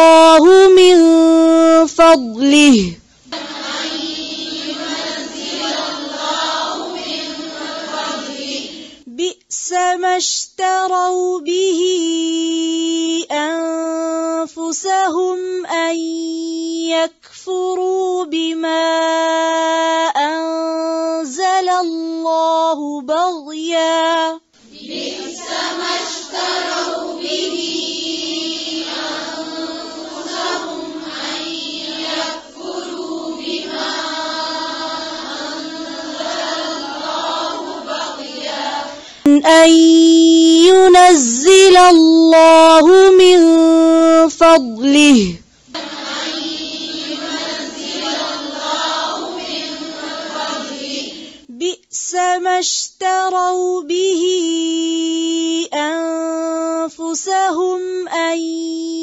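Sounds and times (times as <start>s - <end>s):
woman reciting melodically: 0.0s - 59.0s.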